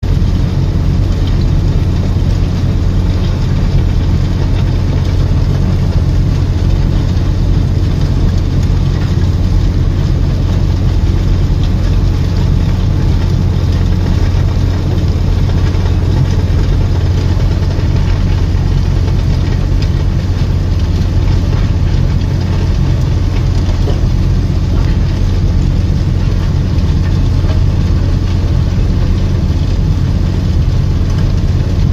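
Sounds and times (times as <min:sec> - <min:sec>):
construction machinery low drone: 0:00.0 - 0:31.9.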